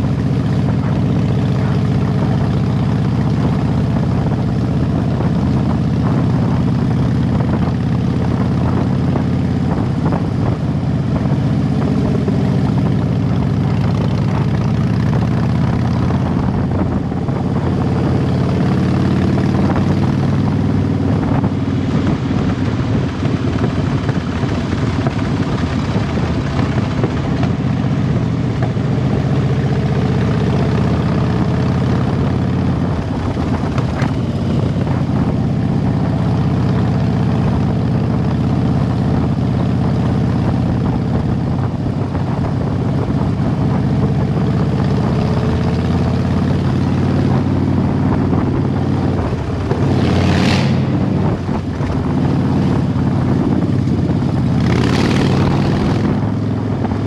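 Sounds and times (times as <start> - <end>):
motorcycle exhaust note: 0.0 - 57.0.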